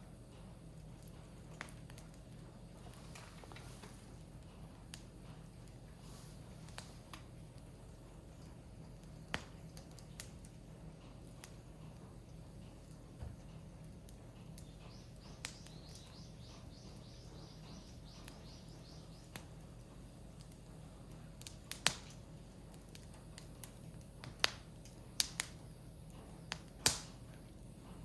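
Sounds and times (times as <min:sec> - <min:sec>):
wood fire crackling: 0:00.0 - 0:28.0
firewood popping and snapping: 0:00.1 - 0:28.0.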